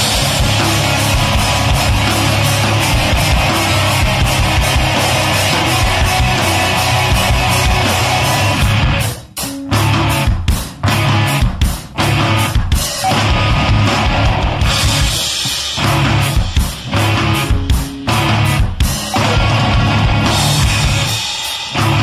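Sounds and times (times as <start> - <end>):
loud rock song: 0.0 - 22.0.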